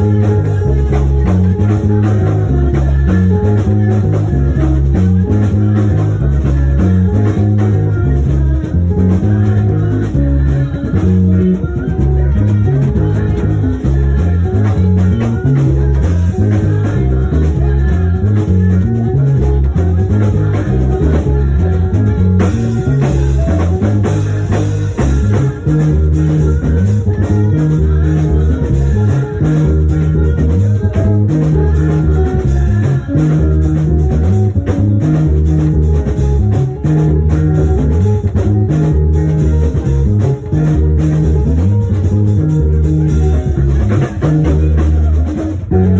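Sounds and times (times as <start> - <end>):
bass guitar walking line: 0.0 - 45.9
drum kit: 0.0 - 45.9
guitar: 0.0 - 45.9.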